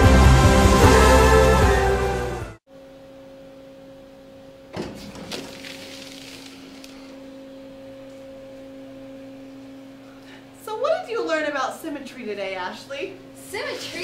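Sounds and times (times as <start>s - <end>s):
steady electrical hum: 2.7s - 14.0s.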